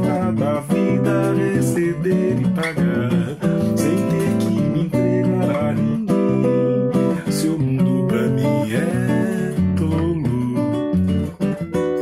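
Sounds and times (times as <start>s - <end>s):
classical guitar playing chords: 0.0s - 12.0s.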